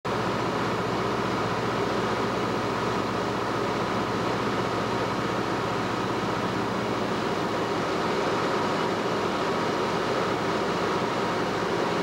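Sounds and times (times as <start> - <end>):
light aircraft engine and propeller: 0.1 - 12.0.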